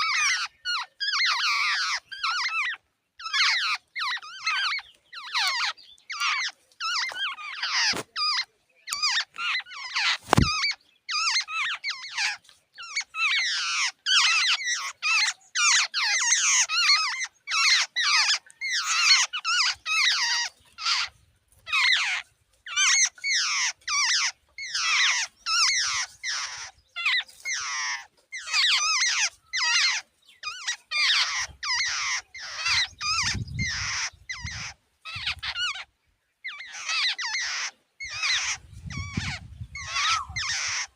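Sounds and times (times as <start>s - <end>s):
birds making harsh squeaky calls: 0.0s - 40.9s.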